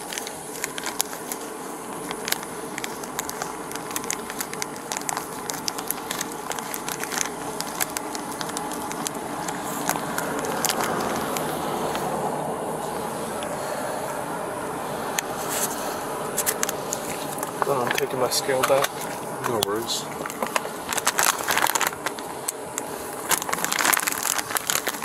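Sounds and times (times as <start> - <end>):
objects being handled clicking: 0.0 - 12.1, 16.4 - 25.0
steady background hiss: 0.0 - 25.0.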